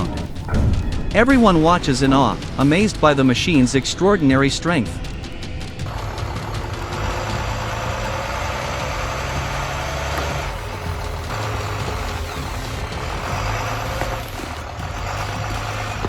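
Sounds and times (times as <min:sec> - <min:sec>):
large vehicle engine running: 0:00.0 - 0:16.0.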